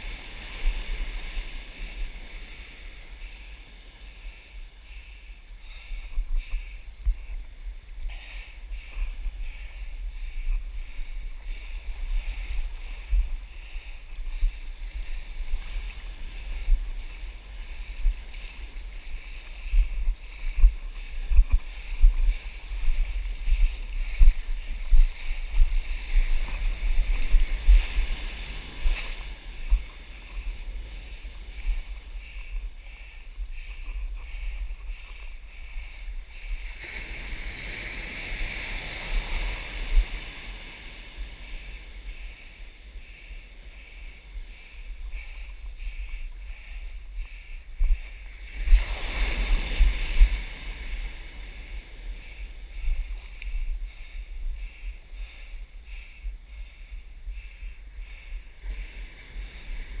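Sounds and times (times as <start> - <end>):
wind buffeting microphone: 5.5 - 60.0.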